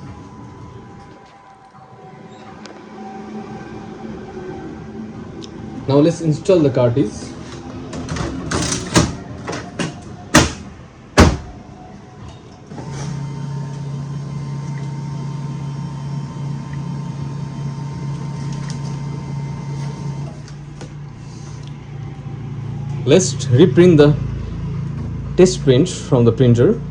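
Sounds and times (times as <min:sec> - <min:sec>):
printer motors humming: 0:00.0 - 0:25.7.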